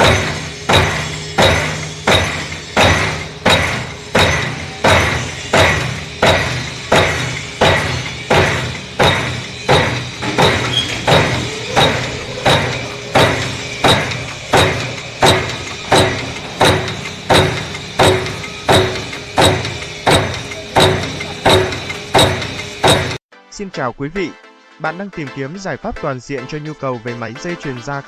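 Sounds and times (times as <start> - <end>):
low machine hum: 0.0 - 23.2
punch press stamping metal: 0.0 - 23.2.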